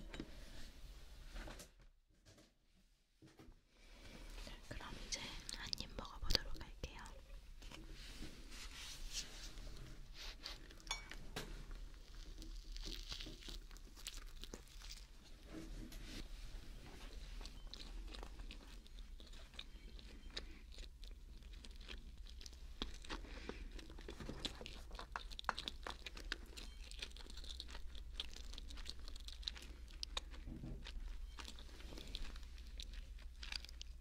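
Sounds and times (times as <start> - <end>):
close-up chewing: 4.9 - 7.9, 9.4 - 34.0.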